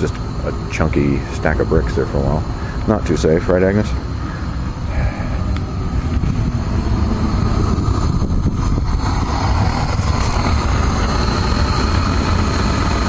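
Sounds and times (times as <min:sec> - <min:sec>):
propane burner roaring: 0:00.0 - 0:13.0.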